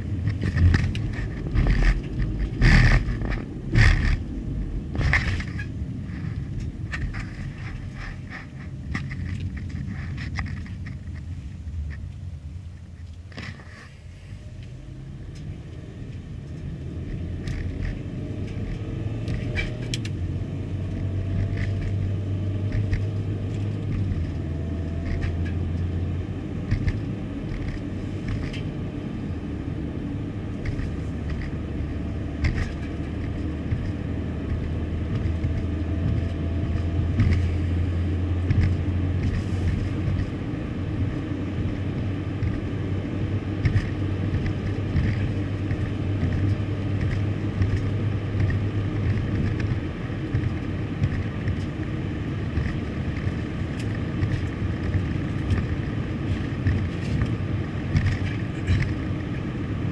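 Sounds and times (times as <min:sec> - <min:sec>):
car engine and road drone: 0:00.0 - 0:59.9
light clicks and rattles: 0:00.2 - 0:13.9, 0:14.6 - 0:20.2, 0:20.8 - 0:26.0, 0:26.6 - 0:28.8, 0:30.5 - 0:40.4, 0:43.5 - 0:59.4.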